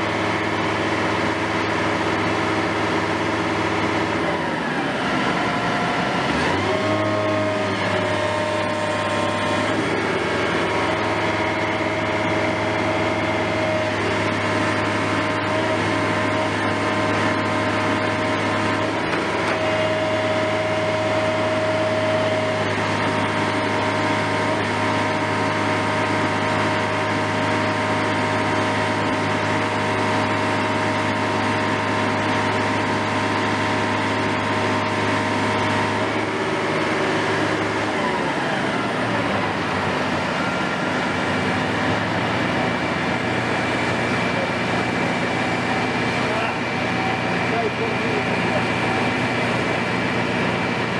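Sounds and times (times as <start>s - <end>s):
heavy machinery engine humming: 0.0s - 50.9s.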